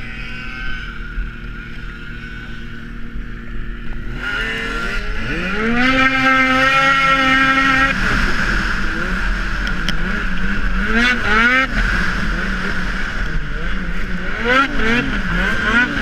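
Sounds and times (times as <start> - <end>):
snowmobile engine revving: 0.0 - 16.0.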